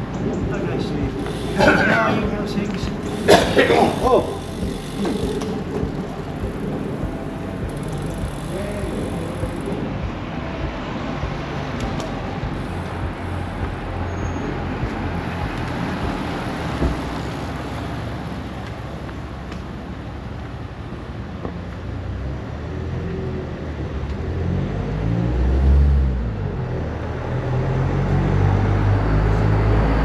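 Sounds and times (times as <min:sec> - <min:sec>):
motor vehicle rumbling: 0:00.0 - 0:30.0.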